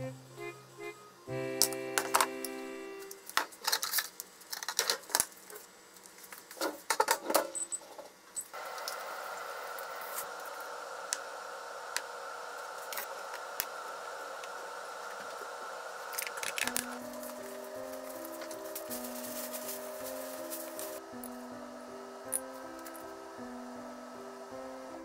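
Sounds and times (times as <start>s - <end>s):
microwave oven humming: 0.0s - 3.7s, 8.5s - 25.0s.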